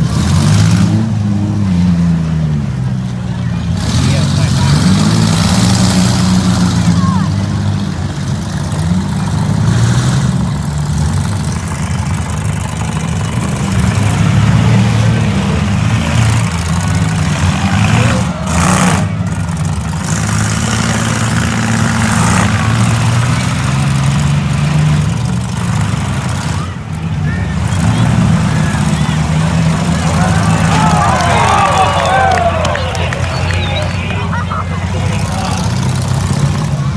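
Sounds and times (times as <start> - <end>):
engines running and revving: 0.0 - 36.9.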